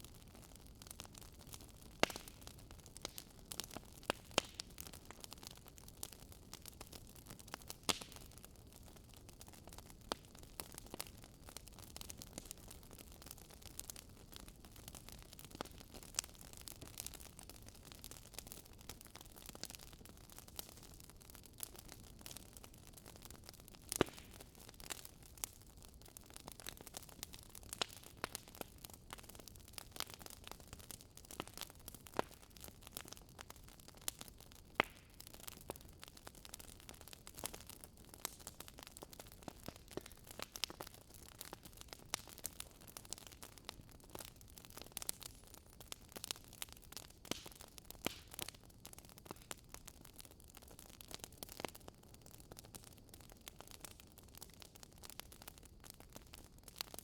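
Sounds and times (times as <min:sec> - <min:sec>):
fire crackling and popping: 0:00.0 - 0:57.0
soft hiss of fire: 0:00.0 - 0:57.0.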